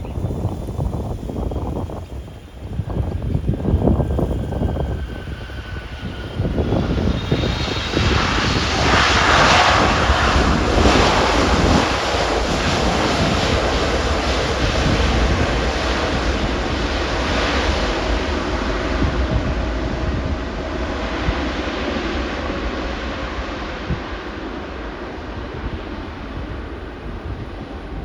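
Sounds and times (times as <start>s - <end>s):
jet airliner engines passing: 0.0s - 28.0s
wind rumble on microphone: 0.0s - 28.0s.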